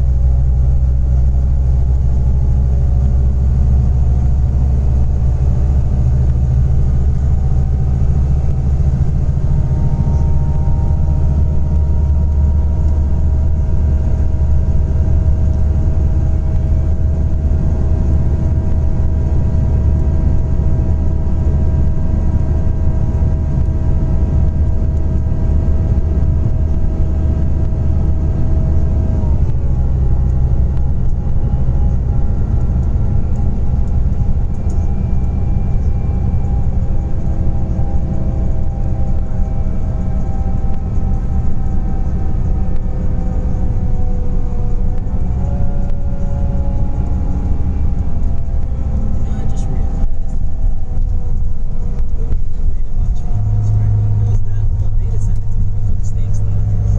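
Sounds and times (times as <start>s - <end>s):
coach engine rumble: 0.0s - 56.9s
drivetrain whine: 0.0s - 56.9s.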